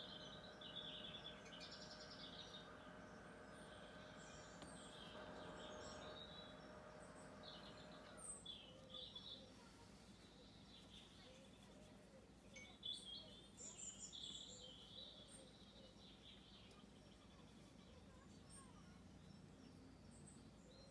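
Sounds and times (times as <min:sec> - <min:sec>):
faint steady hum: 0:00.0 - 0:20.9
small birds chirping: 0:00.0 - 0:20.9.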